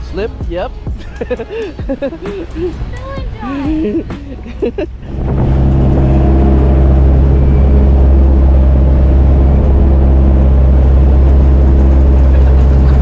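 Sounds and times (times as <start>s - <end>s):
boat engine droning: 2.3s - 13.0s.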